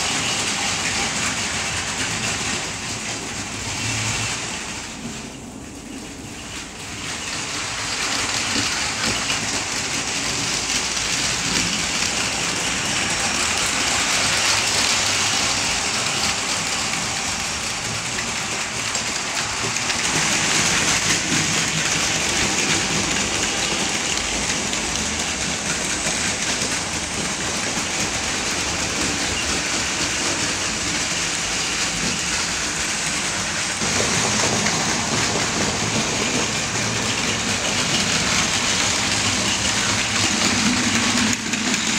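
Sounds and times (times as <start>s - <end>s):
wheels rattling over rail joints: 0.0s - 41.9s
toy train motors whirring: 6.6s - 41.9s.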